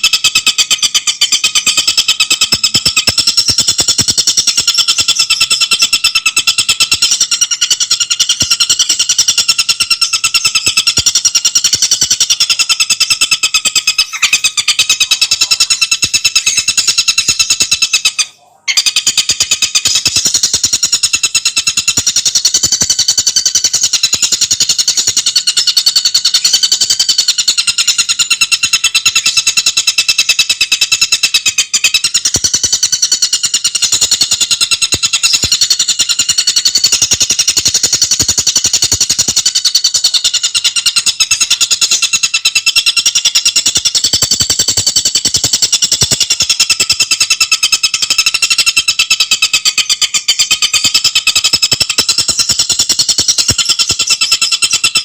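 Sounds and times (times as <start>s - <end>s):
songbird trilling: 0.0s - 55.0s.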